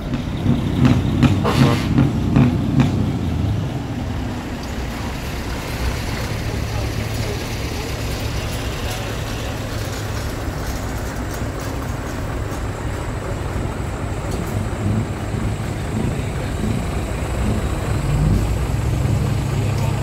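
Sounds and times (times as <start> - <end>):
truck diesel engines rumbling: 0.0 - 20.0.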